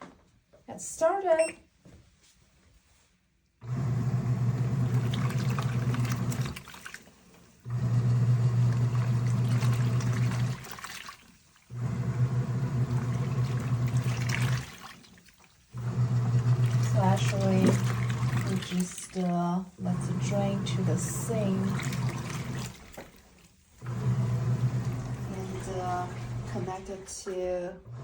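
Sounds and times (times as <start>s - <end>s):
washing machine churning water: 3.6s - 28.0s.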